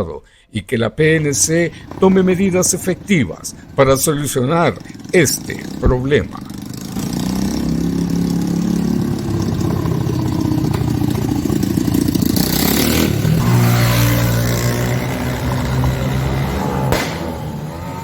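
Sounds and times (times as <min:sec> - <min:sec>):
motorcycle engine revving: 0:01.1 - 0:18.0.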